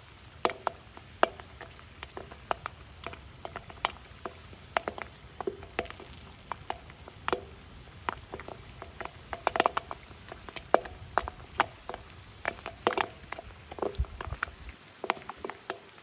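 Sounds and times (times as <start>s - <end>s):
popcorn popping in oil: 0.0s - 16.0s.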